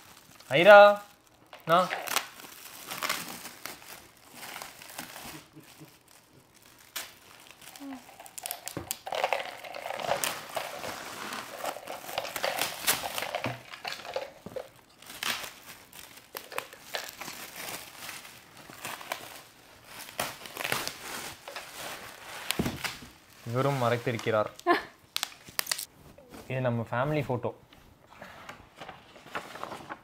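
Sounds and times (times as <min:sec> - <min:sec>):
metallic gift wrap crinkling: 0:00.0 - 0:25.9.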